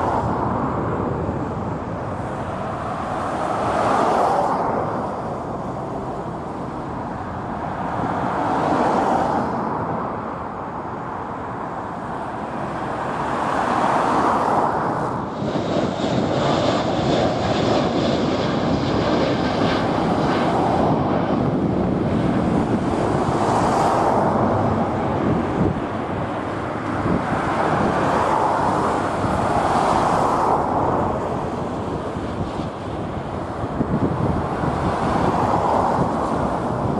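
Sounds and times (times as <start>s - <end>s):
wind on microphone: 0.0s - 8.8s, 13.1s - 36.9s
jet engines roaring: 0.0s - 36.9s
road traffic: 0.0s - 36.9s.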